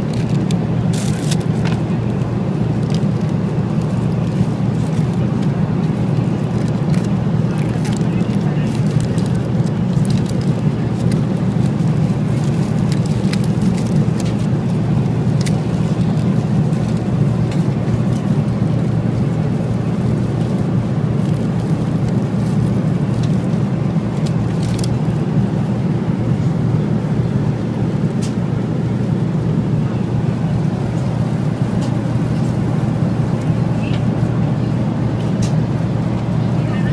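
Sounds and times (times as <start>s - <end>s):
airplane cabin roar in flight: 0.0s - 36.9s.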